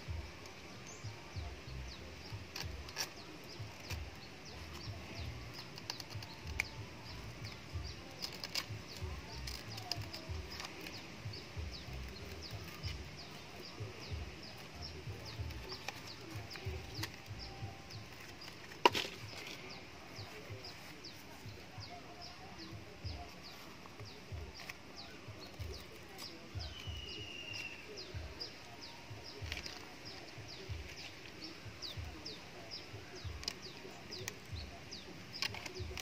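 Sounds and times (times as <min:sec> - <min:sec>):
small birds chirping: 0:00.0 - 0:36.0
blade cutting with clicks and scraping: 0:00.2 - 0:36.0.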